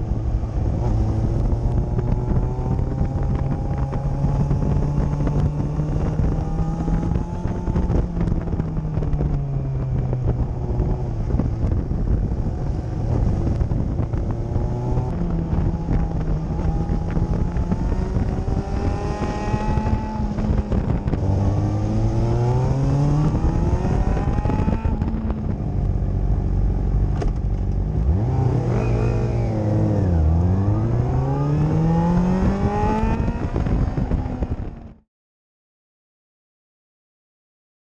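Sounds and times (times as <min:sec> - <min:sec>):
motorcycle engine revving: 0:00.0 - 0:35.0
wind and road noise: 0:00.0 - 0:35.0.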